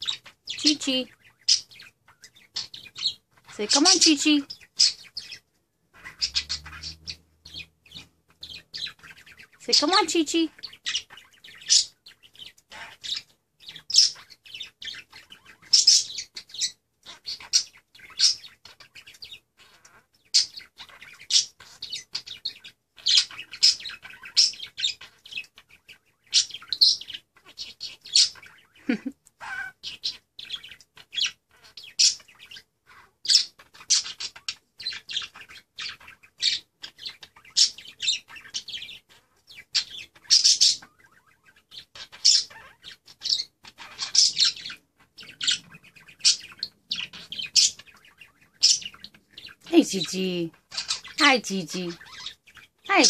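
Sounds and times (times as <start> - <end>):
budgerigar chattering and warbling: 6.0 - 53.0.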